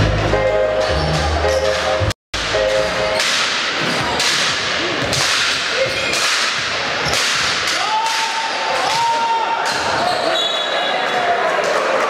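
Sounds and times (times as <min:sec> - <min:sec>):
sports hall noise: 0:00.0 - 0:12.0.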